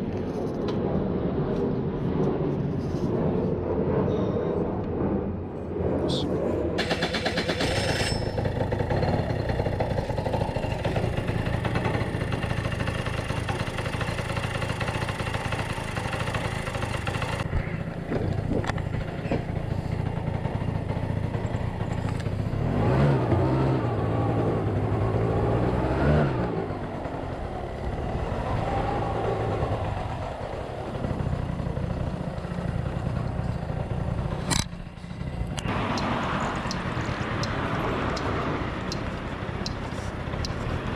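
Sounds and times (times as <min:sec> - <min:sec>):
scooter engine revving: 0:06.8 - 0:40.9.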